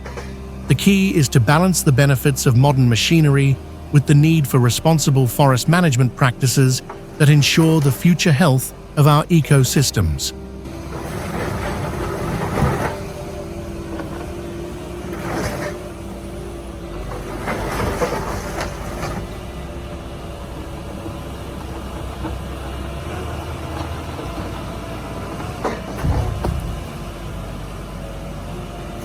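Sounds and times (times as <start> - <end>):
heavy machine engine running: 0.0 - 29.0.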